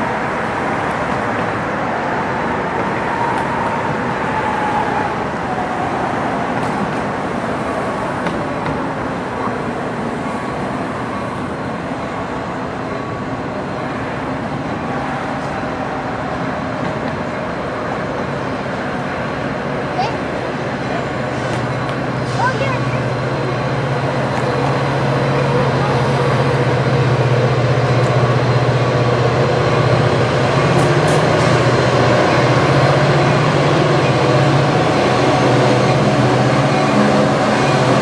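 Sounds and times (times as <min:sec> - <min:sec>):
city traffic noise: 0:00.0 - 0:38.0
diesel train approaching: 0:00.0 - 0:38.0.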